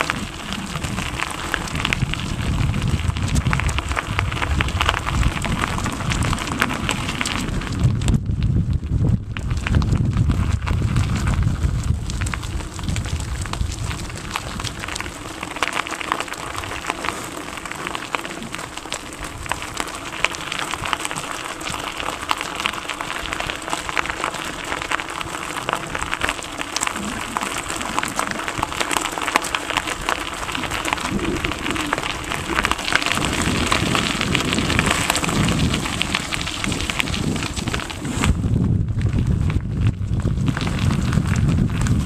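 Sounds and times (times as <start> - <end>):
bicycle tyres on gravel: 0.0 - 42.0.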